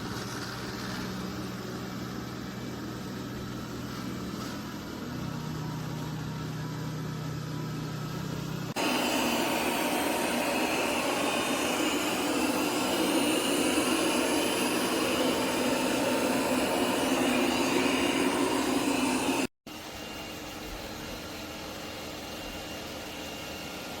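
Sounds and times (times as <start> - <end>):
robot vacuum fan whirring: 0.0 - 24.0.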